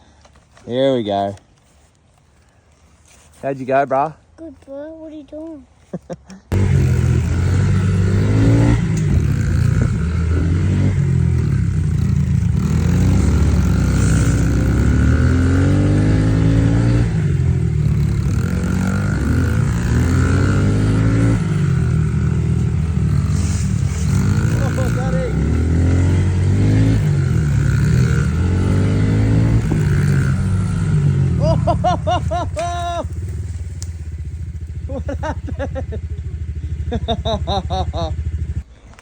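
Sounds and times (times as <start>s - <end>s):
motorbike engine revving: 6.5s - 38.7s.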